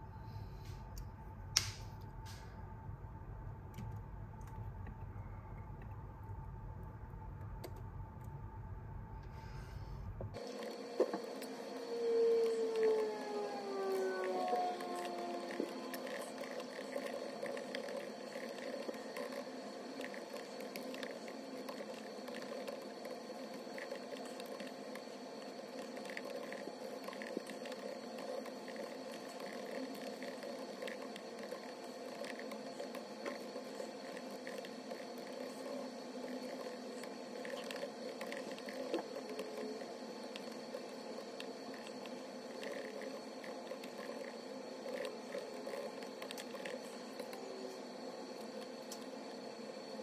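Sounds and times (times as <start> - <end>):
steady background noise: 0.0 - 50.0.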